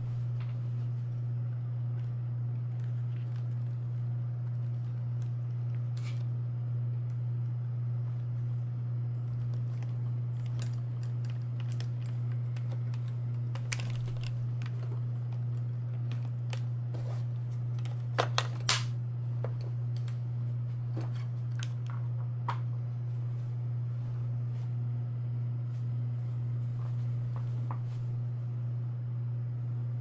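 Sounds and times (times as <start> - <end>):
turntable motor humming: 0.0 - 30.0.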